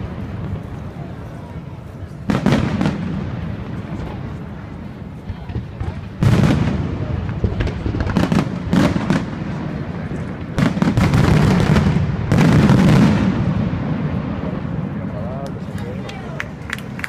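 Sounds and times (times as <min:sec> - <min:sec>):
continuous rumble: 0:00.0 - 0:17.0
fireworks bursting and cracking: 0:00.0 - 0:17.0.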